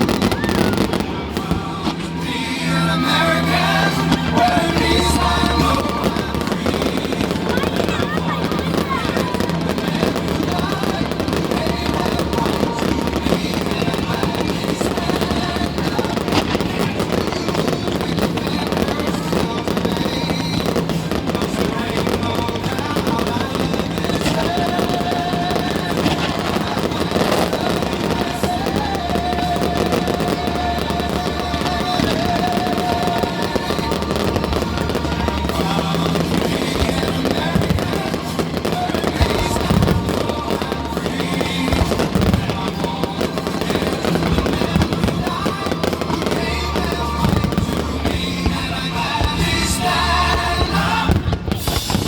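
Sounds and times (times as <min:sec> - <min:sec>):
background music: 0:00.0 - 0:52.0
fireworks bursting and crackling: 0:00.0 - 0:52.0.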